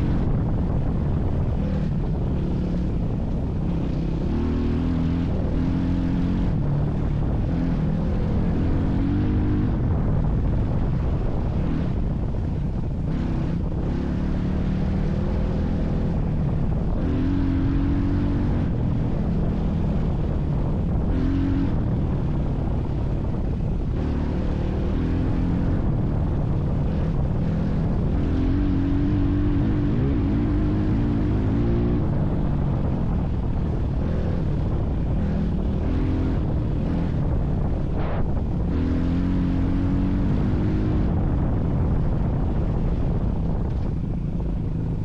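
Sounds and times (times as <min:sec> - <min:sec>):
vehicle engine revving: 0:00.0 - 0:45.0
wind on microphone: 0:00.0 - 0:45.0.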